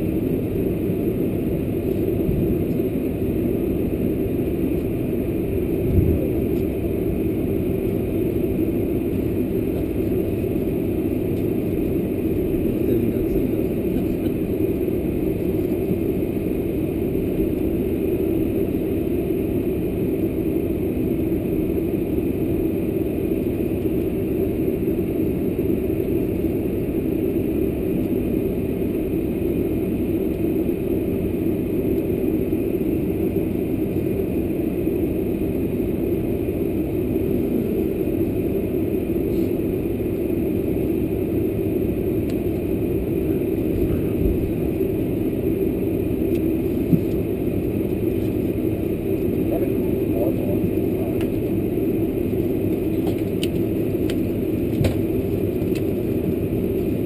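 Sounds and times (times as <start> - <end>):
airplane cabin rumble: 0.0 - 57.0
faint steady whine: 0.0 - 57.0.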